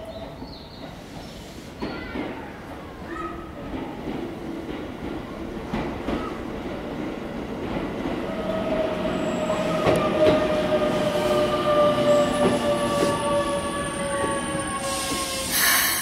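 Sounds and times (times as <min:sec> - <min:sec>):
train wheels clicking: 0:00.2 - 0:16.0.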